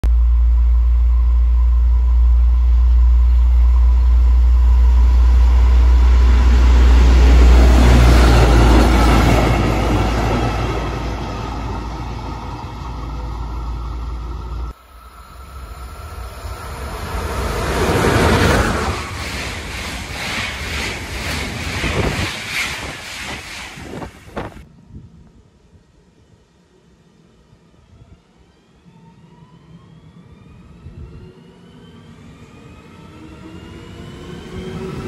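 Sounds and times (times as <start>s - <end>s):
rail vehicle engine and wheels: 0.0s - 35.0s.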